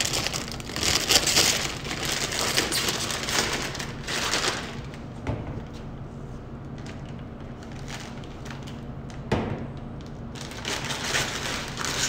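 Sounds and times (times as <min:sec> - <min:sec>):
plastic piping bag crinkling: 0:00.0 - 0:05.1, 0:06.6 - 0:09.2, 0:09.9 - 0:12.0
steady low hum: 0:00.0 - 0:12.0.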